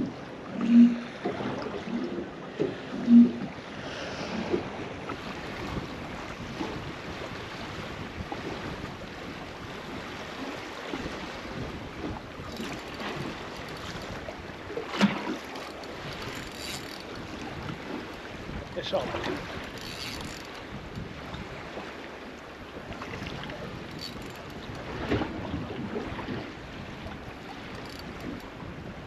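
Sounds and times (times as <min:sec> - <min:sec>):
wind on microphone: 0:00.0 - 0:15.3, 0:16.0 - 0:21.9, 0:22.6 - 0:29.0
water lapping against boat hull: 0:00.0 - 0:29.0.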